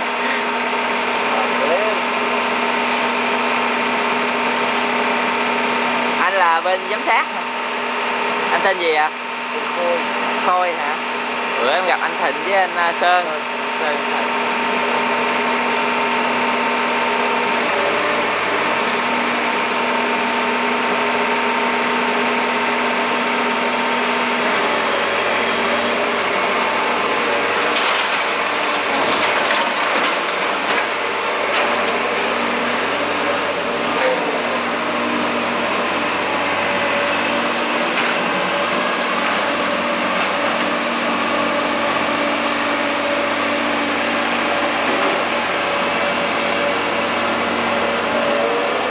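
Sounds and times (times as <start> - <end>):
excavator engine and hydraulics: 0.0 - 48.9.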